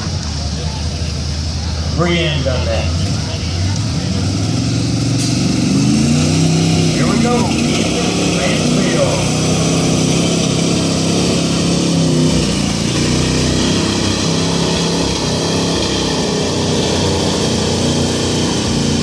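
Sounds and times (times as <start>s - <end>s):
truck engine under heavy load: 0.0s - 19.0s.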